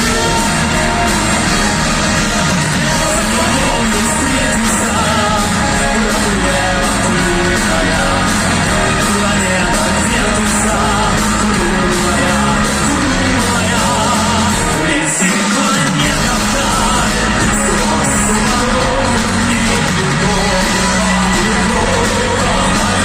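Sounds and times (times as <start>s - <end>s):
live band playing pop song: 0.0s - 23.0s.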